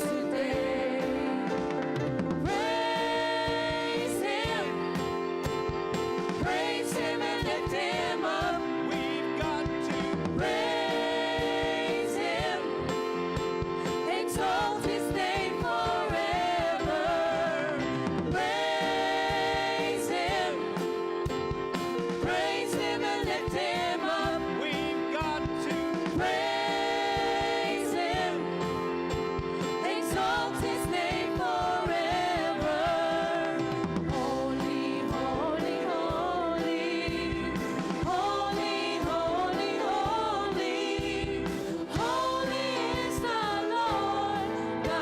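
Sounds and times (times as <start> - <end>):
band accompaniment: 0.0 - 45.0
voices singing together: 0.0 - 45.0.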